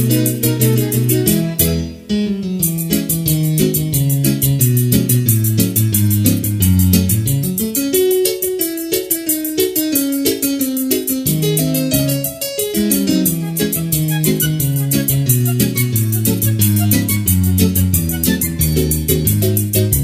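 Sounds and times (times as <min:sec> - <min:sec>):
moving bass line: 0:00.0 - 0:07.9, 0:11.2 - 0:20.0
electric piano chords: 0:00.0 - 0:20.0
fast percussion tick: 0:02.6 - 0:20.0.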